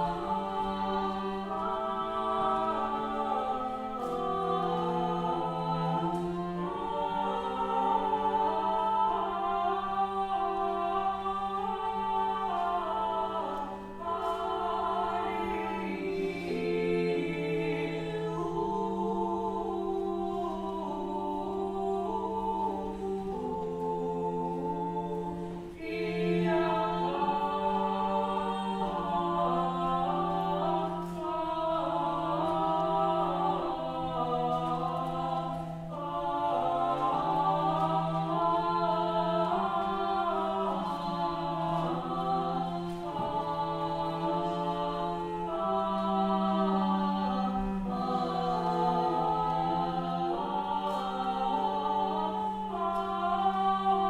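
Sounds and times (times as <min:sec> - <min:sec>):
choir singing a cappella chant: 0:00.0 - 0:54.0.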